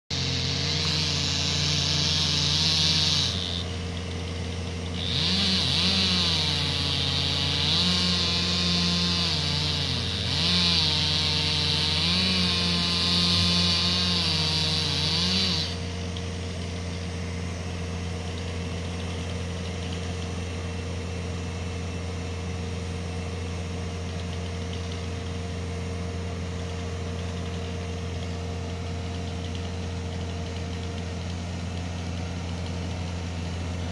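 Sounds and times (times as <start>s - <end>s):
chainsaw cutting log: 0.1s - 33.9s
engine idling hum: 0.1s - 33.9s.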